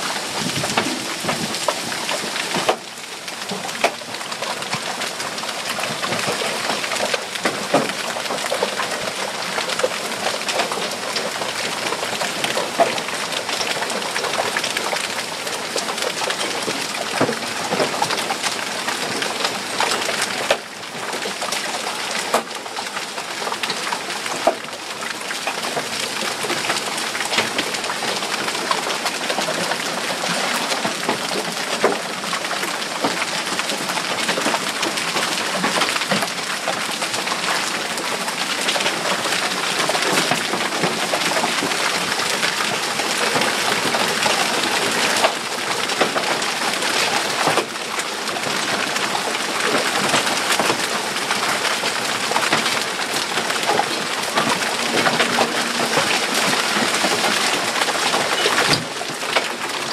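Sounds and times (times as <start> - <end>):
heavy rain and hail: 0.0 - 59.9.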